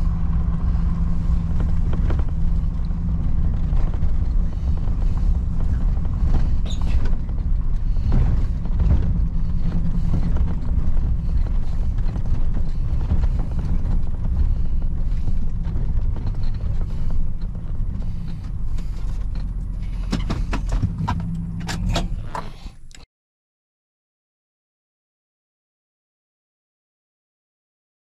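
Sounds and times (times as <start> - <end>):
cab knocks and creaks: 0.0 - 23.0
road rumble: 0.0 - 23.0
truck engine hum: 0.0 - 23.0.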